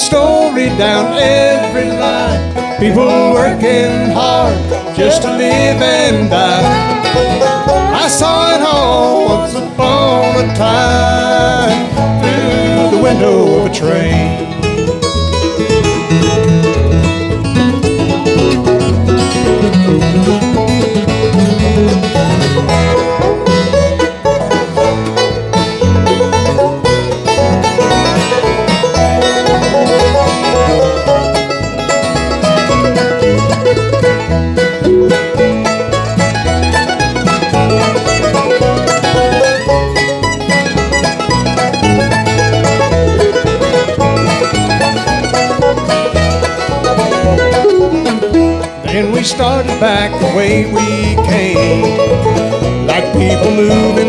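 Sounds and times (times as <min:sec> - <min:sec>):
bluegrass band playing: 0:00.0 - 0:54.0
picked banjo: 0:00.0 - 0:54.0.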